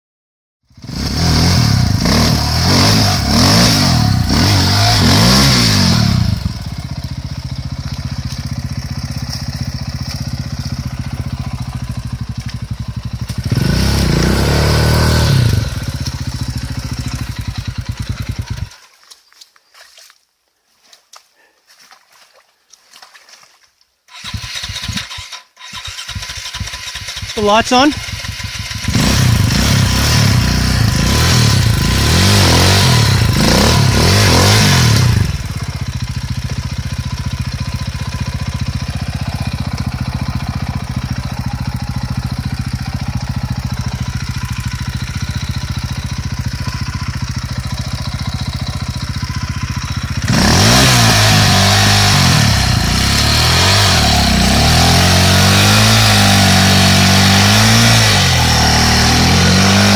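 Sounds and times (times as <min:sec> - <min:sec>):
dirt bike engine revving and idling: 0:00.6 - 0:18.9, 0:24.1 - 0:59.9.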